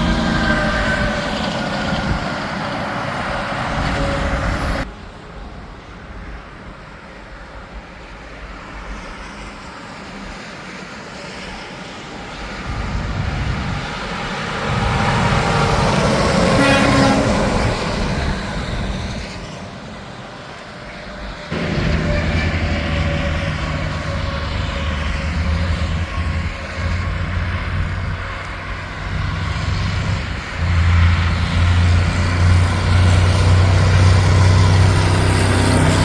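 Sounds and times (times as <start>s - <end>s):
trucks passing on highway: 0.0s - 36.0s.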